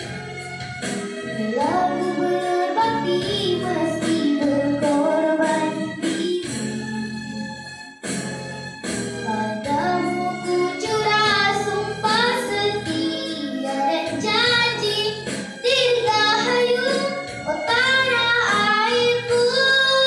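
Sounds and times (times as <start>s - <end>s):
musical backing track: 0.0s - 20.0s
girl singing into microphone: 1.3s - 6.8s, 9.2s - 20.0s.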